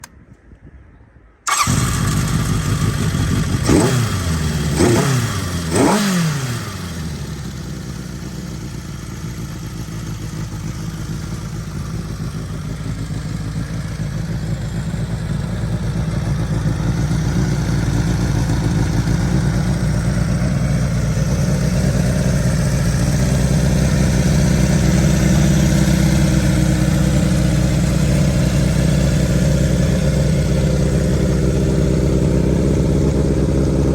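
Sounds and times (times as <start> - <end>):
motorcycle engine starting and revving: 1.4 - 33.9
motorcycle engine idling: 1.5 - 33.9.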